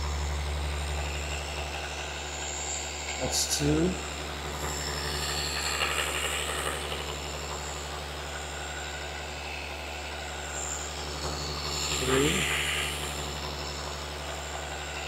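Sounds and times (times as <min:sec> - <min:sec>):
orbital polisher humming: 0:00.0 - 0:15.0.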